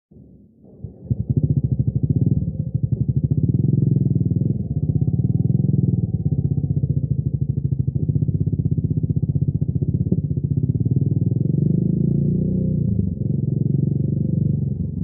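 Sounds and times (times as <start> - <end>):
motorcycle engine at high revs: 0.8 - 15.0.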